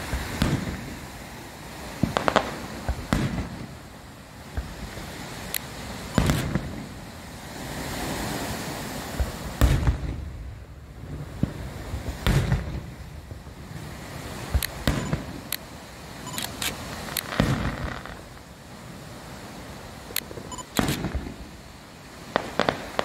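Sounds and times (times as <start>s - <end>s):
fireworks launching and bursting: 0.0s - 23.0s.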